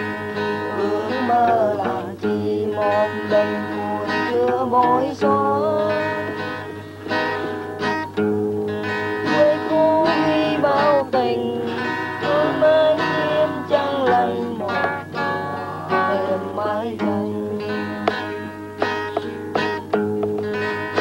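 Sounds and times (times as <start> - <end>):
person singing: 0.0 - 7.1, 9.2 - 19.4
plucked acoustic guitar: 0.0 - 21.0.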